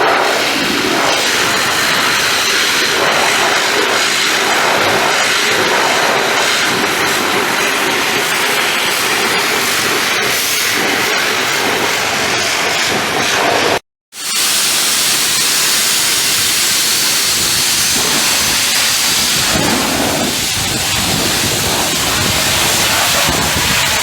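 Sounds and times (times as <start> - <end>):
high-pressure water jet hissing: 0.0 - 24.0.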